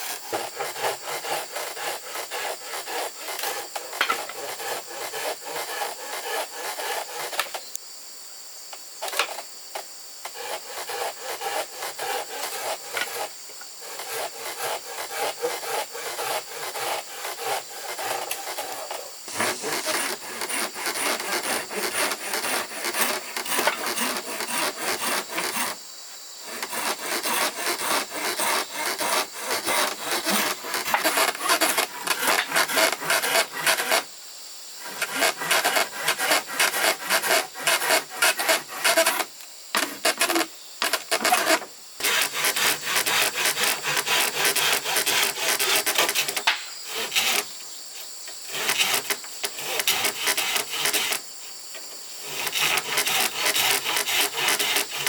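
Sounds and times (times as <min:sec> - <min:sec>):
hand saw cutting wood: 0:00.0 - 0:07.5, 0:10.3 - 0:25.8, 0:26.4 - 0:34.1, 0:34.8 - 0:47.5, 0:48.5 - 0:51.2, 0:52.2 - 0:55.0
insects droning: 0:00.0 - 0:55.0.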